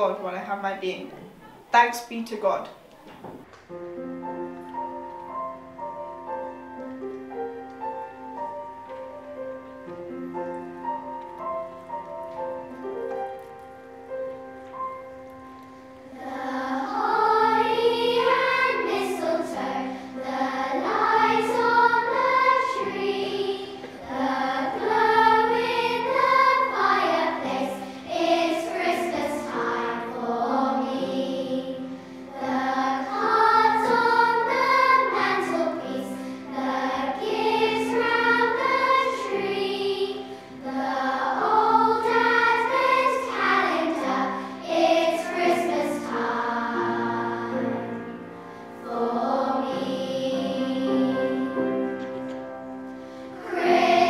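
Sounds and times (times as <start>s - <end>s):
piano accompaniment: 0.0s - 54.0s
children's choir singing: 4.2s - 54.0s.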